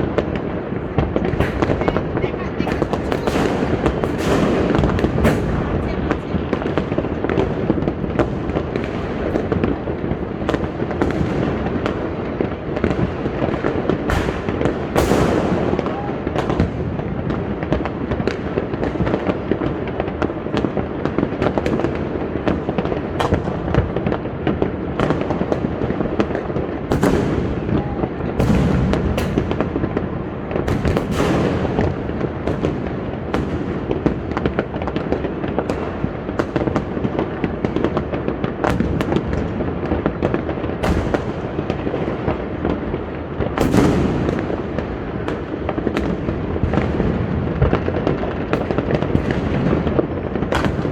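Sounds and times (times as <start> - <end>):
fireworks crackling and banging: 0.0 - 50.9
loud firework blasts: 0.0 - 50.9.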